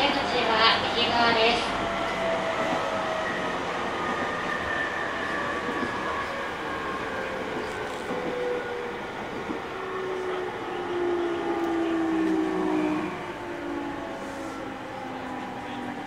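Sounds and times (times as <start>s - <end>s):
electric train motor whine: 0.0s - 16.0s
wheel and rail noise: 0.0s - 16.0s.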